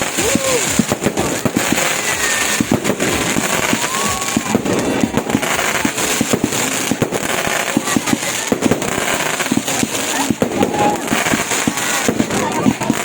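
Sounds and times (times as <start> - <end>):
fireworks bangs and pops: 0.0 - 13.0
fireworks crackle: 0.0 - 13.0.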